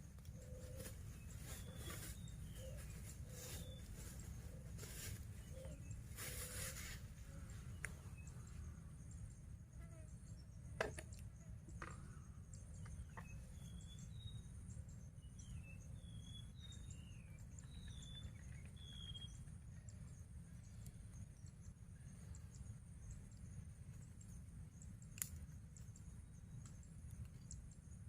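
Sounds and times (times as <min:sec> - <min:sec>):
faint birdsong: 0:00.0 - 0:28.0.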